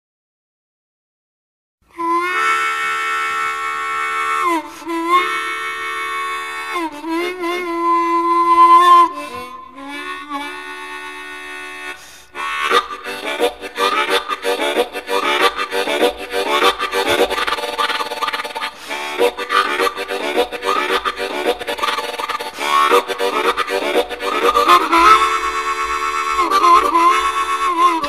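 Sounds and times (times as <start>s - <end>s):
blues harmonica: 1.9s - 28.0s.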